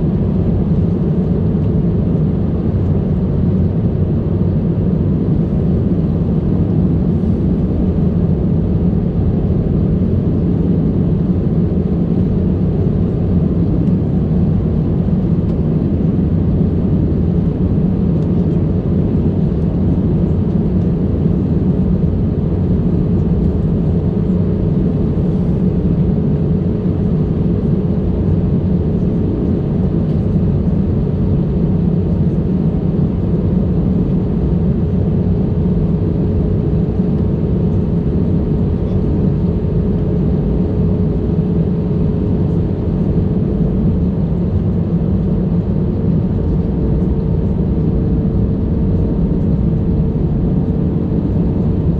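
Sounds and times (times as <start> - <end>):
aircraft cabin engine drone: 0.0 - 51.9.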